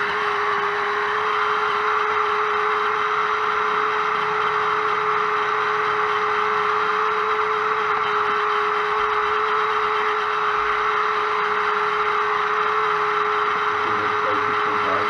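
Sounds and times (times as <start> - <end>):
toy car motor whine: 0.0 - 15.0.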